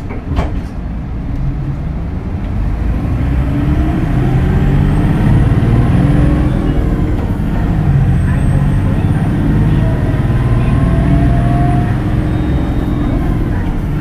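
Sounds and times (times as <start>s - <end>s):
bus diesel engine accelerating: 0.0s - 14.0s.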